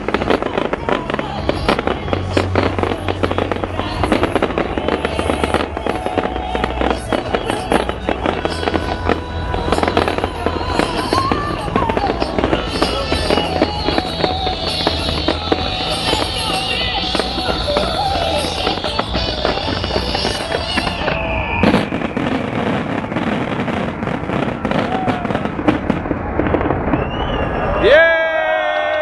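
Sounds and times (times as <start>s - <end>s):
music soundtrack: 0.0s - 24.7s
fireworks bangs and crackles: 0.0s - 28.2s.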